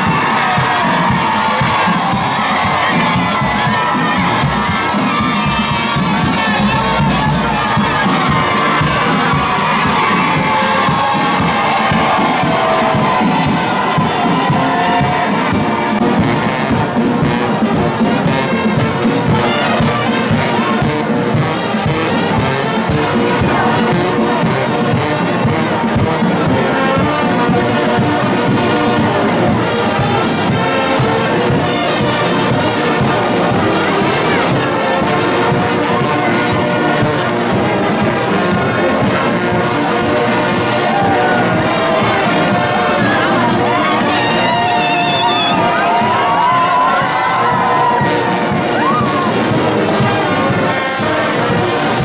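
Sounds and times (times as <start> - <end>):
brass band playing: 0.0 - 52.0.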